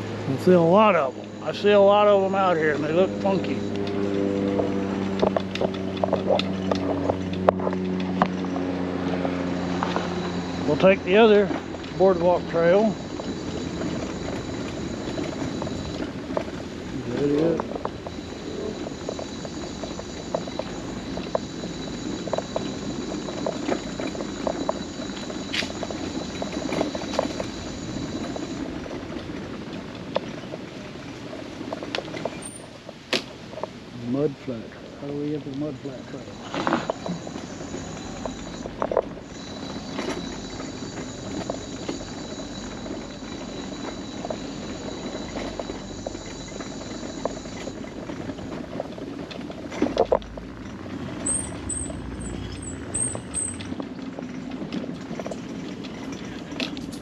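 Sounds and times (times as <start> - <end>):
high steady whine: 0.0 - 29.6, 34.1 - 54.3
scooter wheels clacking on planks: 0.0 - 33.8, 35.1 - 57.0.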